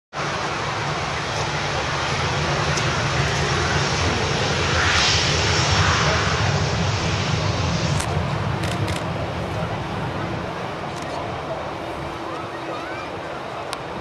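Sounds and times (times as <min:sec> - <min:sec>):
jet engines rumbling: 0:00.1 - 0:14.0.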